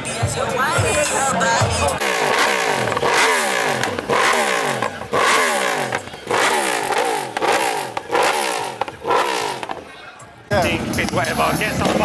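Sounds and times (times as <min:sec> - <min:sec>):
motorcycle engine revving: 0:02.0 - 0:12.0.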